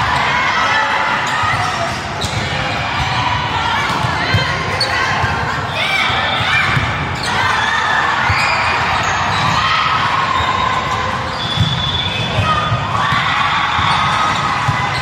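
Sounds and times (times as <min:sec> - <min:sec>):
sneakers squeaking on floor: 0:01.1 - 0:02.8, 0:03.8 - 0:07.6, 0:08.2 - 0:15.0.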